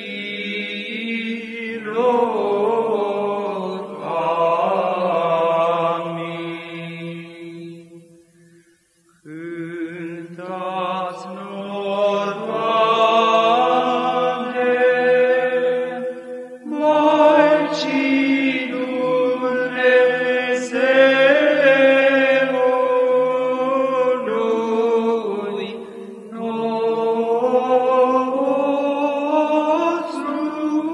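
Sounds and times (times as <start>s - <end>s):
male choir chanting: 0.0s - 8.0s, 9.3s - 30.9s
held vocal drone: 0.0s - 30.9s.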